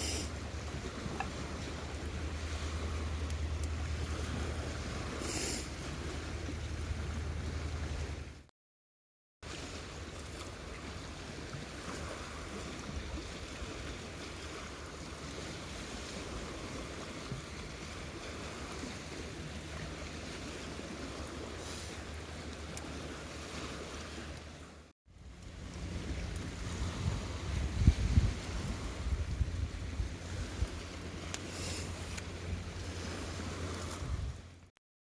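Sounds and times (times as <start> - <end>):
water noise: 0.0 - 8.5, 9.4 - 34.8
wind: 0.0 - 8.5, 9.4 - 34.8.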